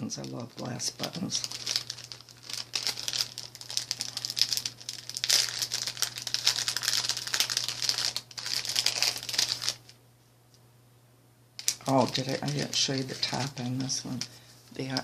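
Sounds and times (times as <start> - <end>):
bags crinkling and rustling: 0.0 - 10.0, 11.6 - 15.0.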